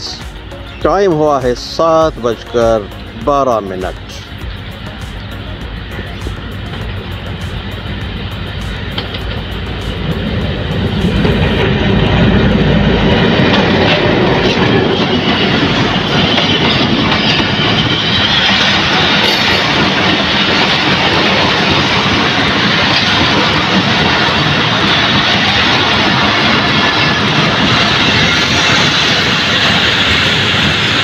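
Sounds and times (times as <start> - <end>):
diesel locomotive engine: 0.0 - 31.0
heavy low rumble: 0.0 - 31.0
train wheels on rails: 0.0 - 31.0.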